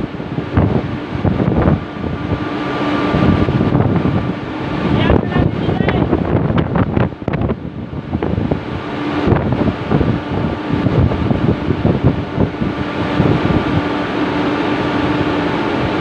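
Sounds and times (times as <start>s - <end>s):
crane motor humming: 0.0s - 16.0s
wind buffeting microphone: 0.0s - 16.0s.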